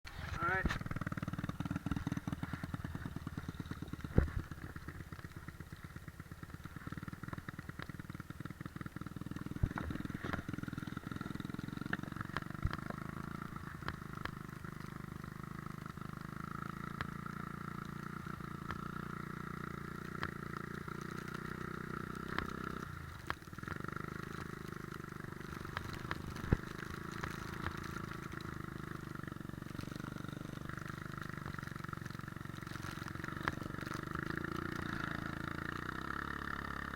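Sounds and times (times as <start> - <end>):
atv engine revving: 0.1 - 36.9.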